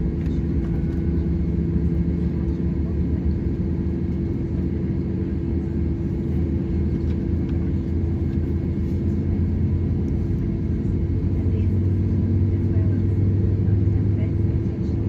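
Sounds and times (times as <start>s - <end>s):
aircraft cabin rumble and hum: 0.0s - 15.0s.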